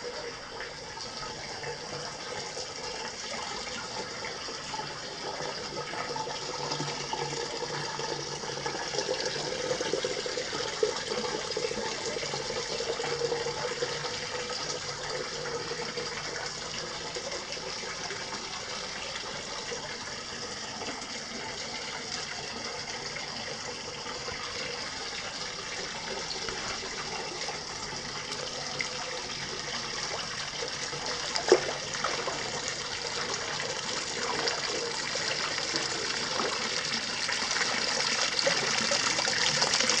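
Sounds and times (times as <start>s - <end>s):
water splashing into a bath: 0.1s - 40.0s.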